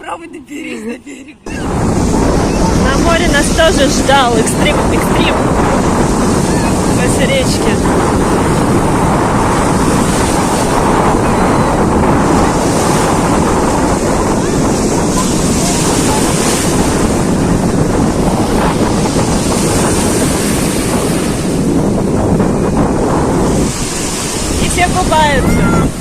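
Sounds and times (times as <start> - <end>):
waves breaking: 1.4 - 26.0
wind buffeting microphone: 1.4 - 26.0.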